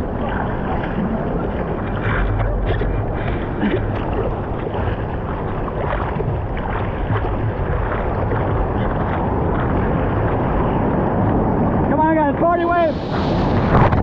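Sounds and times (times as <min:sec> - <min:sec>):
surf splashing and sloshing: 0:00.0 - 0:14.0
wind buffeting microphone: 0:00.0 - 0:14.0.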